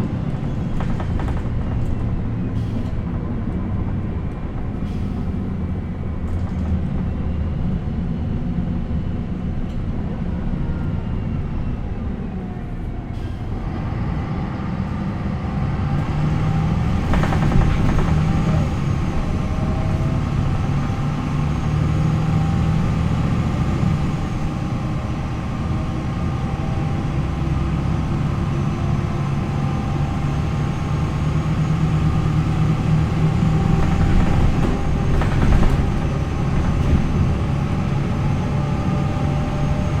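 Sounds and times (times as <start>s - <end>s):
bus diesel engine under way: 0.0s - 40.0s.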